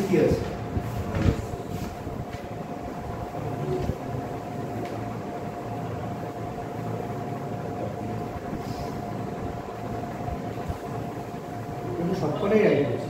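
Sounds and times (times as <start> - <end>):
faint constant whine: 0.0 - 13.0.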